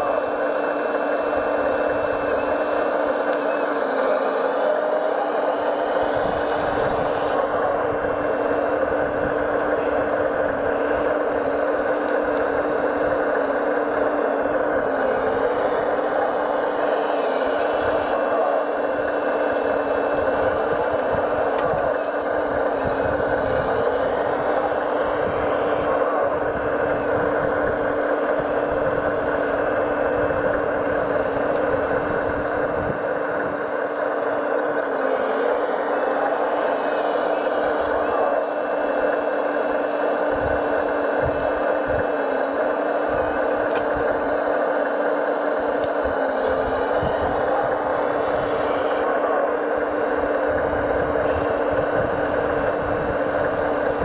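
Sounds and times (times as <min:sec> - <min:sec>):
model vehicle drive hum: 0:00.0 - 0:54.0.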